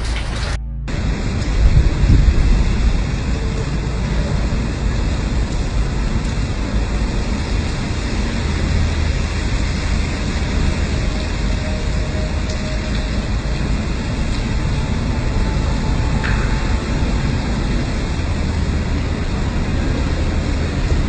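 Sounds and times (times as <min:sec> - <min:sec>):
heavy rain: 0:00.0 - 0:21.0
wind buffeting microphone: 0:00.0 - 0:21.0.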